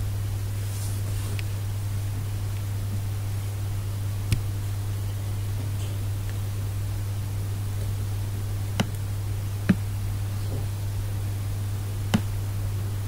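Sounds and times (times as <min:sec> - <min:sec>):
low electrical hum and hiss: 0:00.0 - 0:13.0.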